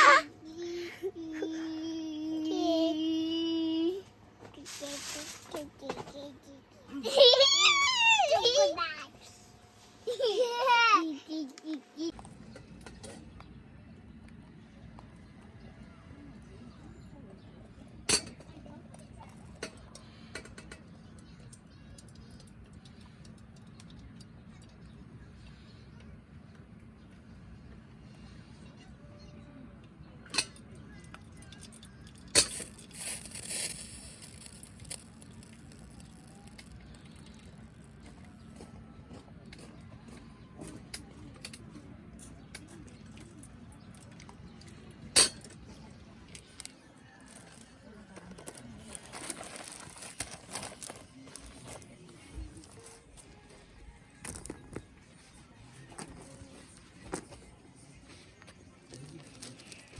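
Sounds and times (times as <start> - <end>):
low steady background noise: 0.0 - 59.9.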